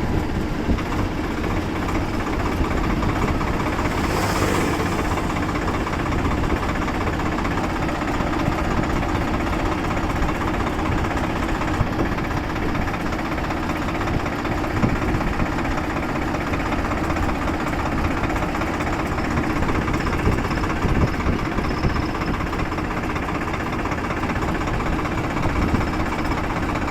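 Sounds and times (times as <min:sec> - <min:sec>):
tractor diesel engine running: 0:00.0 - 0:26.9.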